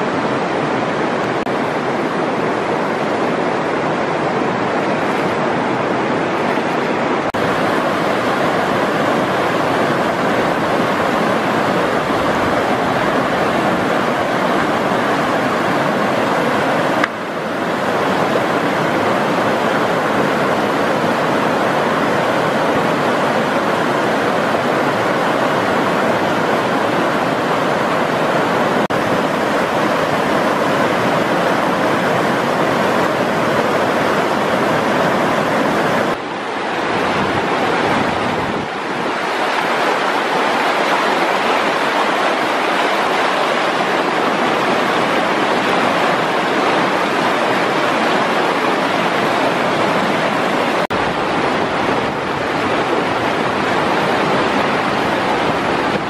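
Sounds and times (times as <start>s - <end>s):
river rapids rushing over rocks: 0.0s - 56.0s.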